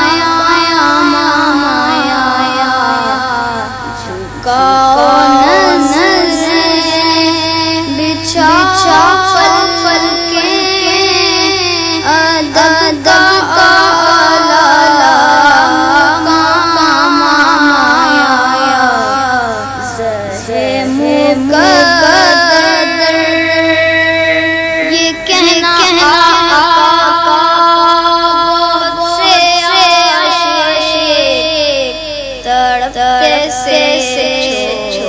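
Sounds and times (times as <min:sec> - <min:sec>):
boy singing devotional song: 0:00.0 - 0:35.0.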